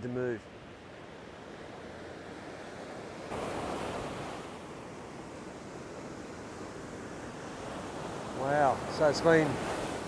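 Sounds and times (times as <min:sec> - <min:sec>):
ocean surf breaking on beach: 0:00.5 - 0:10.0.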